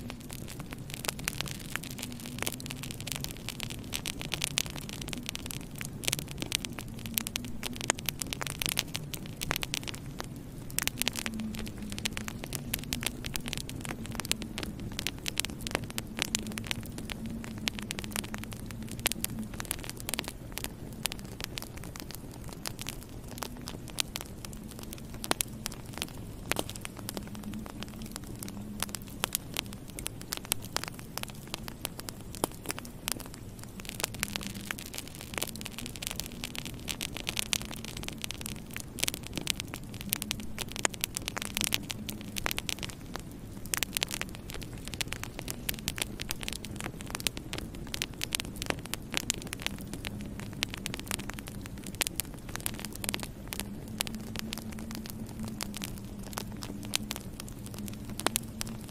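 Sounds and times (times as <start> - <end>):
low steady hum: 0.0 - 58.9
wood fire crackling and popping: 0.0 - 58.9.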